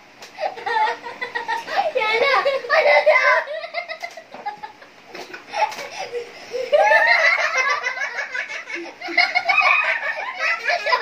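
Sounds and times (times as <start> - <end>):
girls laughing: 0.4 - 11.0.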